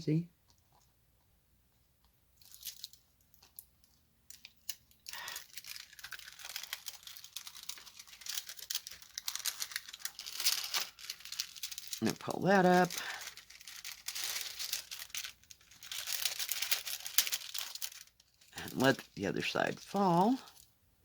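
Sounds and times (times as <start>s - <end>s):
plastic film crinkling: 2.0s - 20.8s.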